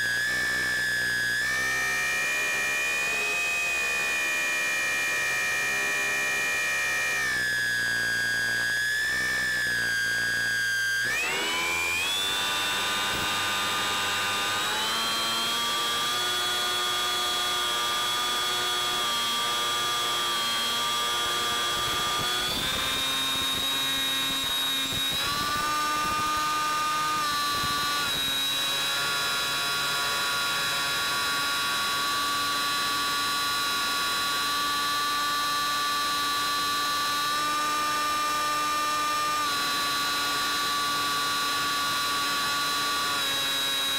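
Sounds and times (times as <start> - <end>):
electric motor and propeller whining: 0.0 - 43.9.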